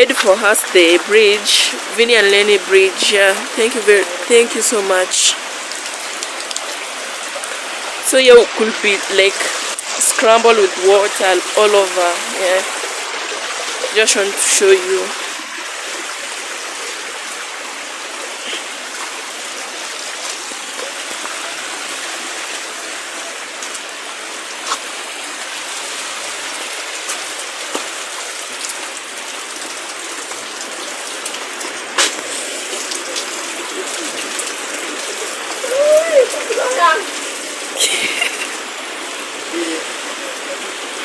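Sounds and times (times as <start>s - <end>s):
rain hiss: 0.0s - 41.0s
running floodwater: 0.0s - 41.0s.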